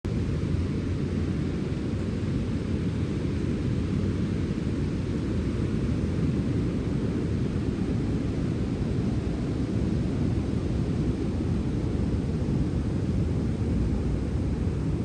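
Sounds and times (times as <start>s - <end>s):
steady sea wind: 0.1s - 15.0s.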